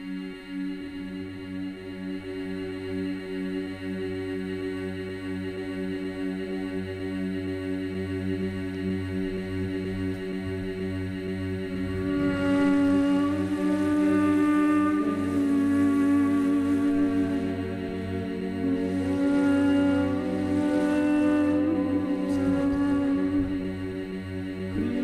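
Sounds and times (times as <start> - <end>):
deeper drone tone: 0.0 - 25.0
droning chant-like tones: 0.0 - 25.0.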